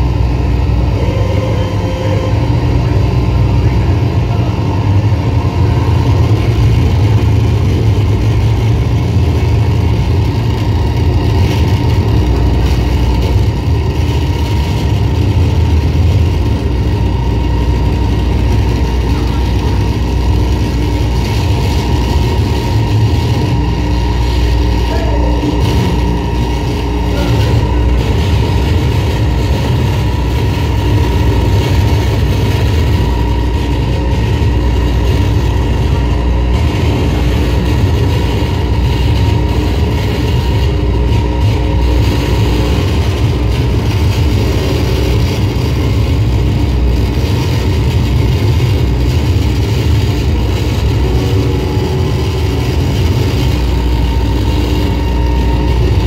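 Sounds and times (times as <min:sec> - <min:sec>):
electronic drone music: 0:00.0 - 0:56.0.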